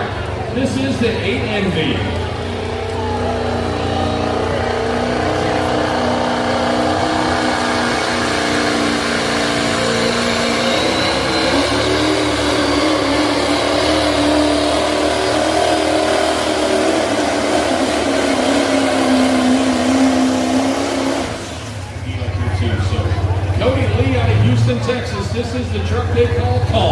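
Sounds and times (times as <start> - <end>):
truck engine revving under load: 0.0 - 26.9.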